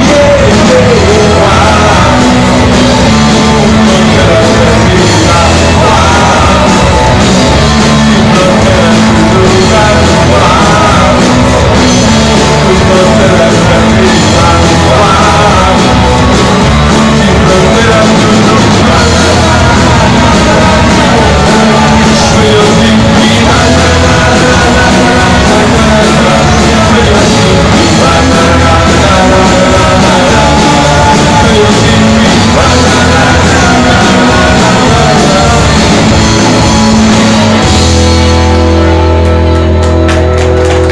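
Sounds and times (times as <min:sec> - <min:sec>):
man singing lead vocal: 0:00.0 - 0:39.0
rock band playing live: 0:00.0 - 0:40.9.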